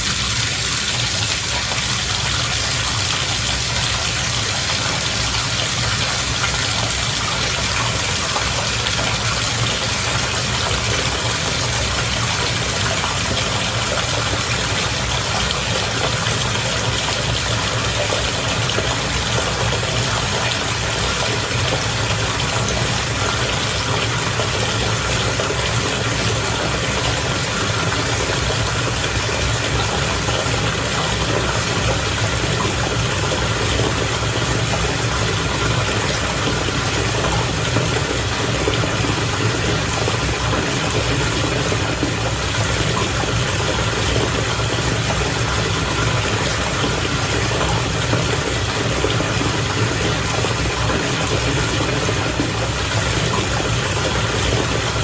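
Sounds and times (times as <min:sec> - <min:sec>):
bath water bubbling: 0:00.0 - 0:55.0.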